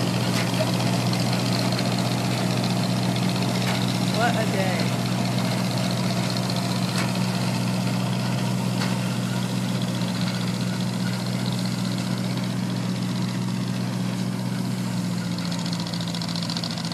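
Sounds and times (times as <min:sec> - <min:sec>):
combine engine drone: 0:00.0 - 0:16.9
machinery noise: 0:00.0 - 0:16.9.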